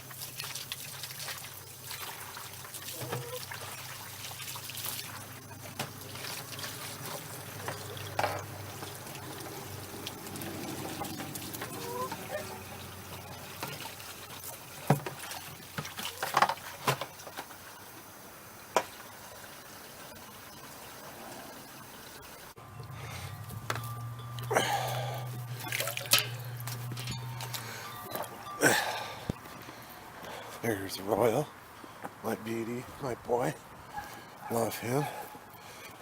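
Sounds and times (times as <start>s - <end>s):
water trickling and pouring: 0.0s - 30.0s.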